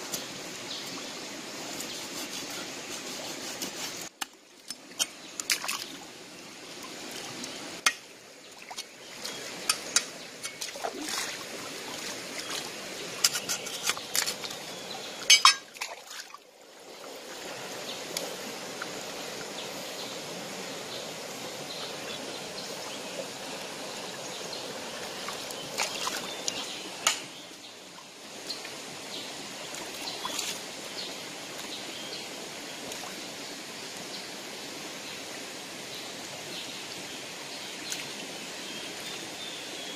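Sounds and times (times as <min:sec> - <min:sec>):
river water splashing: 0:00.0 - 0:39.9
running stream: 0:00.0 - 0:39.9.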